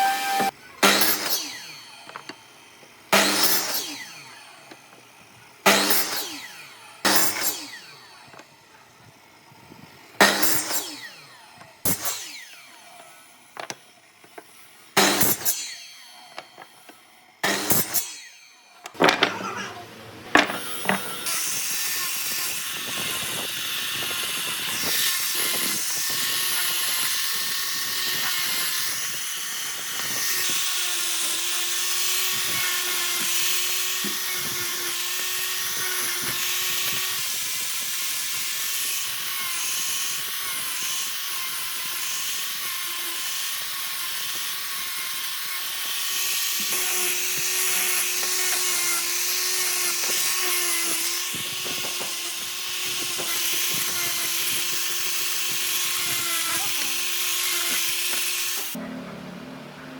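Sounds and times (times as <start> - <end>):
power tool whining: 0.0 - 59.5.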